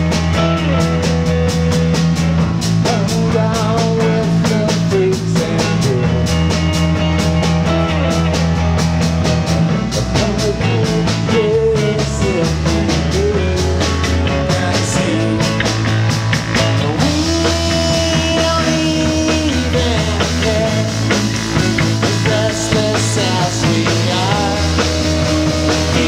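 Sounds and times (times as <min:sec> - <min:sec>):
bass notes: 0:00.0 - 0:26.0
drum kit beat: 0:00.0 - 0:26.0
guitars: 0:00.0 - 0:26.0
keyboard: 0:00.0 - 0:26.0.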